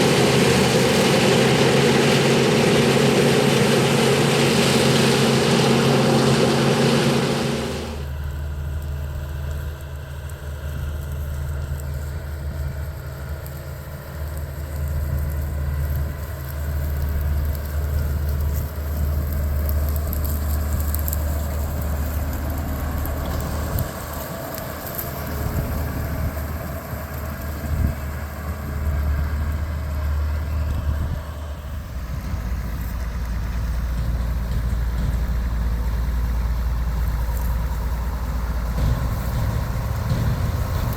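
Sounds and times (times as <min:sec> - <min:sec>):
diesel engine drone: 0:00.0 - 0:09.4, 0:15.1 - 0:40.9.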